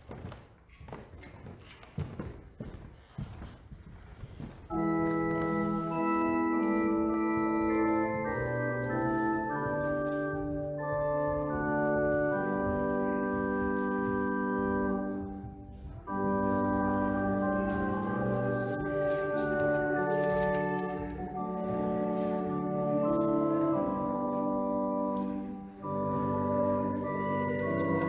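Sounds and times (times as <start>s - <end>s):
church organ chords: 4.7s - 28.0s.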